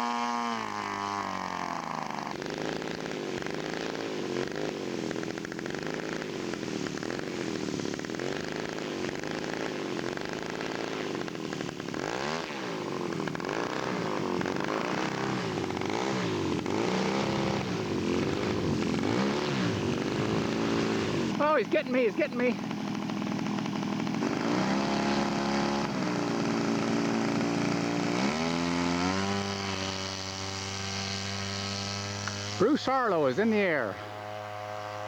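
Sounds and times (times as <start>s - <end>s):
model airplane engine drone: 0.0s - 35.0s.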